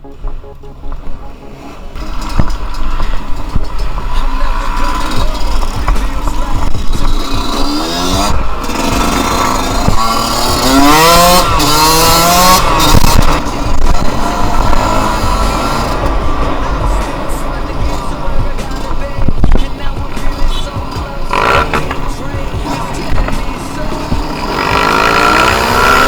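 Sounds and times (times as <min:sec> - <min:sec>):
wind rumble on camera: 0:00.1 - 0:26.0
dirt bike engine revving: 0:01.5 - 0:26.0.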